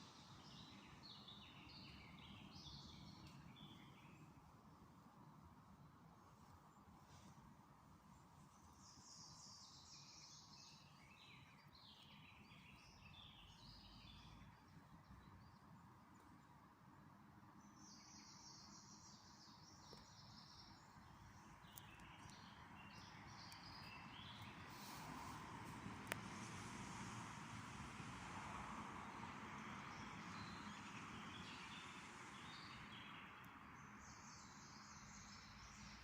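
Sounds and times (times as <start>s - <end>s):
songbirds twittering: 0.0s - 5.5s, 8.0s - 26.5s, 29.0s - 36.0s.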